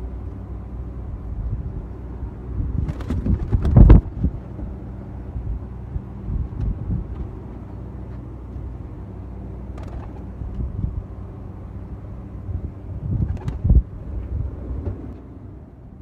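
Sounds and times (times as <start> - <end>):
low motor hum: 0.0 - 16.0
wind rumbling on microphone: 0.0 - 16.0.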